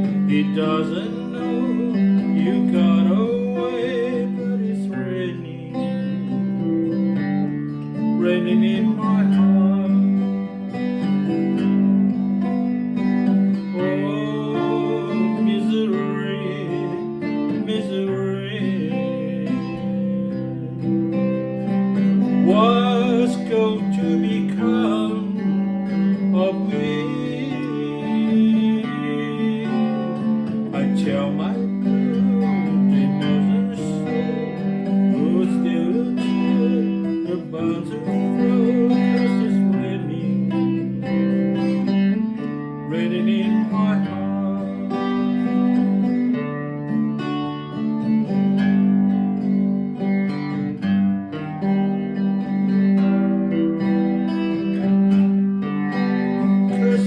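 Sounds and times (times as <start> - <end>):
person singing: 0.0 - 52.9, 53.5 - 57.0
pop ballad recording: 0.0 - 57.0
strummed acoustic guitar: 0.0 - 57.0.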